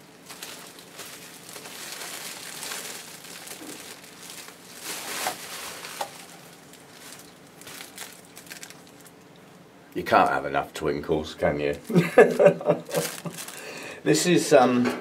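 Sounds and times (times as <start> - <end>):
bubble wrap crinkling: 0.0 - 10.4, 11.4 - 13.8.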